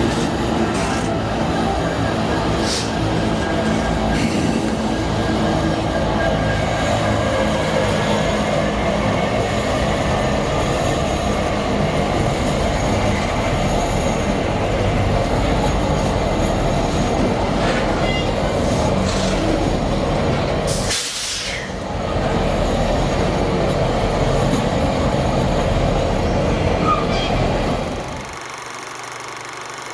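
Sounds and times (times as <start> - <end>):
freight train wagons rumbling: 0.0 - 28.4.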